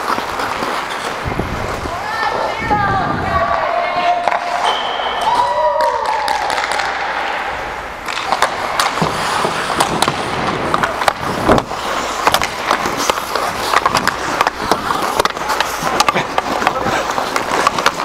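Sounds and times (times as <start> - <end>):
hockey sticks clacking: 0.0 - 2.6, 3.5 - 18.0
skate blades scraping ice: 0.0 - 2.6, 3.4 - 18.0.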